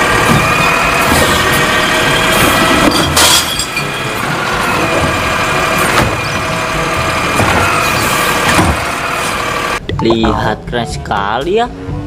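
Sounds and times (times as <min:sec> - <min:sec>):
garbage truck engine and hydraulics: 0:00.0 - 0:09.9.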